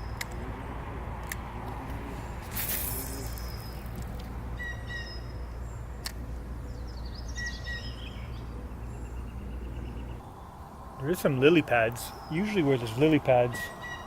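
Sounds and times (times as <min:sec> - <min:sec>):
blue jay calling: 0:02.6 - 0:14.0.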